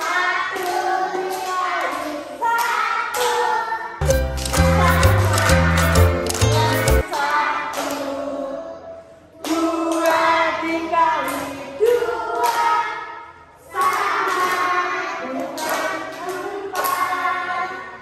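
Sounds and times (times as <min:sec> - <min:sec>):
children singing together: 0:00.0 - 0:18.0.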